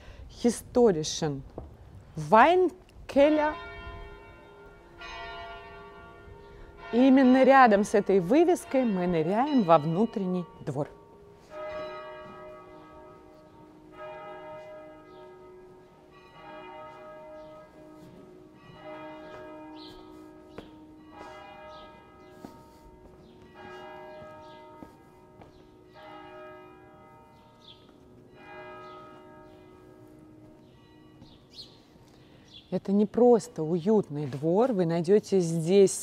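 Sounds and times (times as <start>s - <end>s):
church bell tolling: 3.1s - 32.6s.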